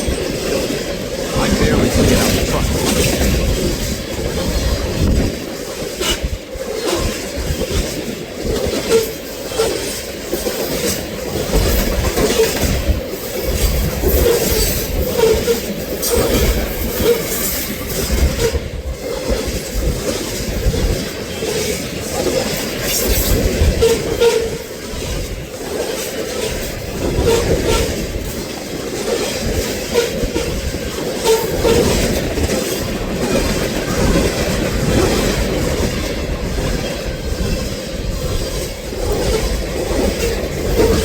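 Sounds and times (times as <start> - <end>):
train rumbling past: 0.0 - 41.0
wheels clacking over rail joints: 1.9 - 41.0.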